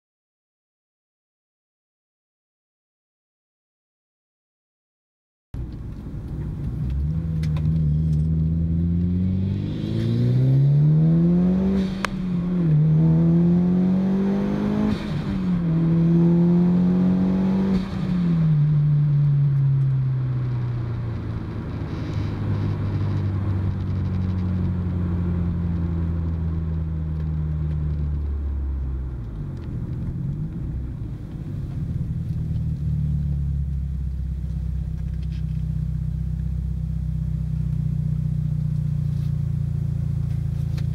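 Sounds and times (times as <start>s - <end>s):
car engine accelerating: 5.6s - 40.9s.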